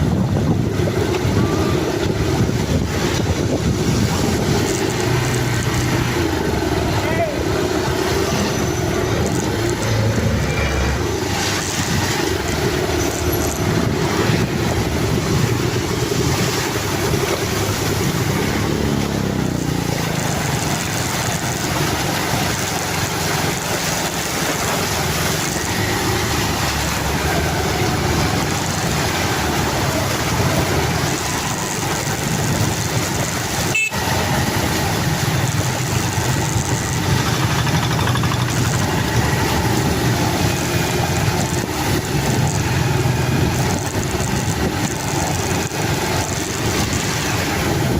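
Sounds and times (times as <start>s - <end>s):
traffic noise: 0.0s - 47.9s
vehicle engine: 0.0s - 47.9s.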